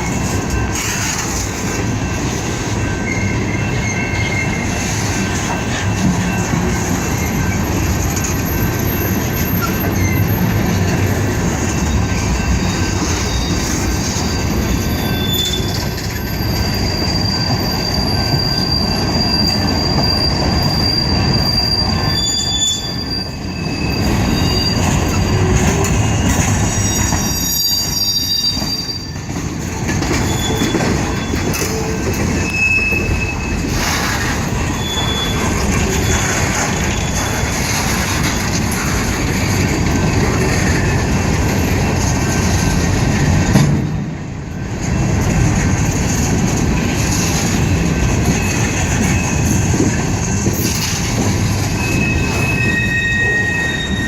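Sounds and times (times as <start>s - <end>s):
freight train cars rolling: 0.0s - 54.0s
steel wheels squealing: 0.0s - 54.0s.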